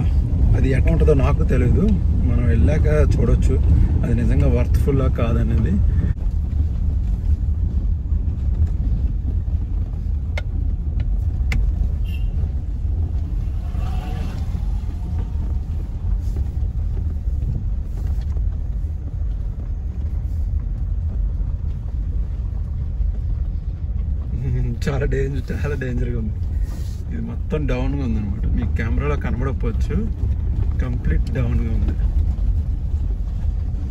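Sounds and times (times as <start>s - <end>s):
car engine and tyres rumbling: 0.0s - 33.9s.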